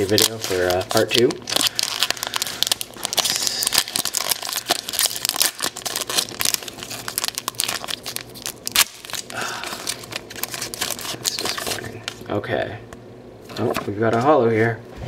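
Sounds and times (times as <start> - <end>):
foil wrapper crinkling and tearing: 0.0 - 12.2.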